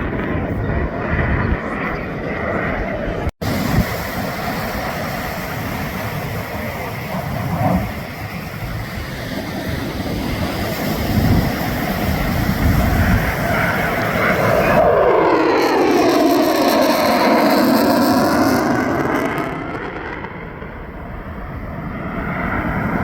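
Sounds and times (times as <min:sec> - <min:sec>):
distant jet engine rumbling: 0:00.0 - 0:23.0
wind buffeting microphone: 0:00.0 - 0:23.0.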